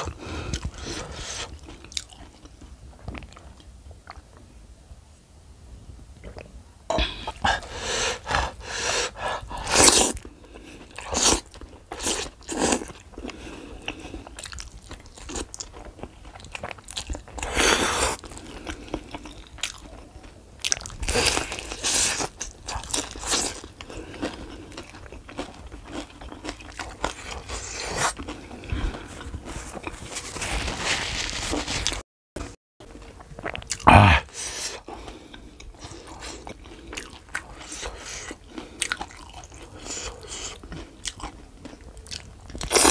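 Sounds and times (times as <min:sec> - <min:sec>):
crunching and chewing food: 0:00.0 - 0:04.6, 0:07.3 - 0:42.9.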